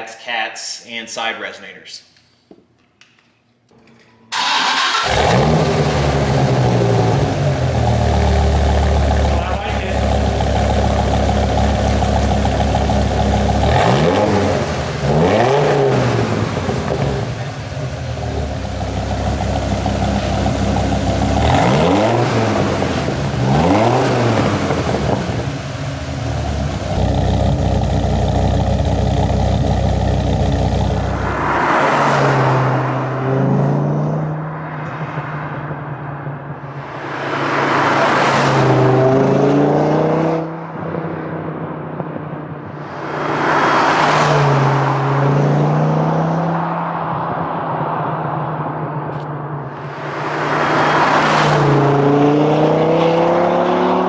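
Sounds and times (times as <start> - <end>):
car engine idling and revving: 4.3 - 54.0.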